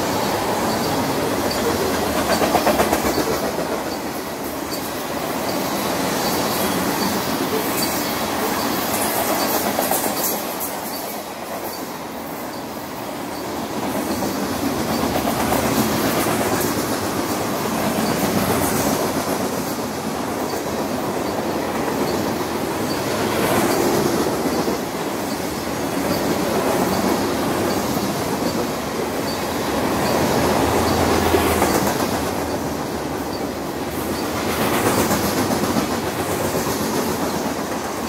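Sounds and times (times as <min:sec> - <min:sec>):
freight train wheels rumbling on rail: 0:00.0 - 0:38.0.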